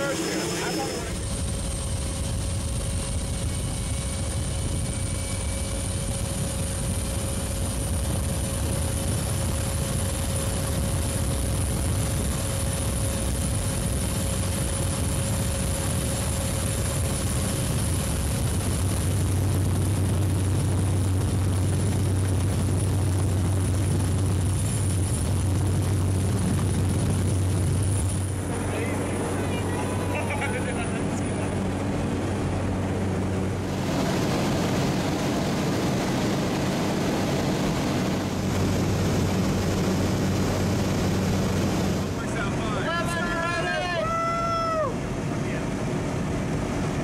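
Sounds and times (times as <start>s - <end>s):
high engine whine: 0.0s - 47.0s
turboprop engine drone: 0.0s - 47.0s.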